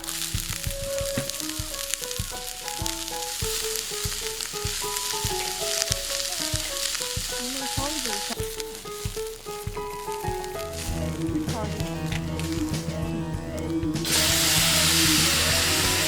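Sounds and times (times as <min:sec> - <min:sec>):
food sizzling in oil: 0:00.0 - 0:12.6, 0:14.0 - 0:16.0
background music with beat: 0:00.0 - 0:16.0.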